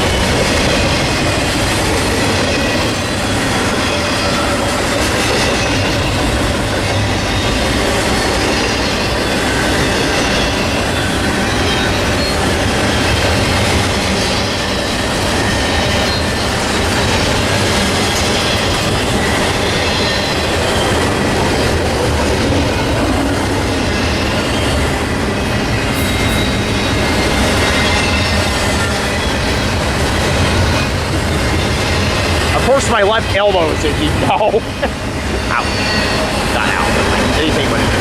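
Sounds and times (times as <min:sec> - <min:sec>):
freight train wheels clattering: 0:00.0 - 0:38.0
high wheel squeal: 0:02.1 - 0:38.0.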